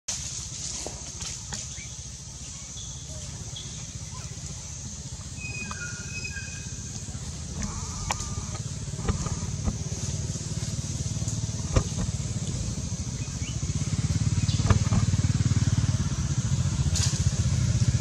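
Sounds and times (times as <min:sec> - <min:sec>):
engine running rumble: 0:00.1 - 0:18.0.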